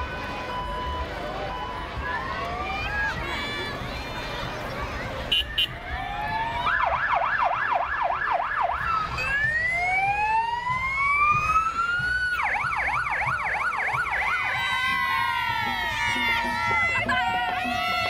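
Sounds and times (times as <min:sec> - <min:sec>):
emergency sirens yelping and wailing: 0:00.0 - 0:18.0.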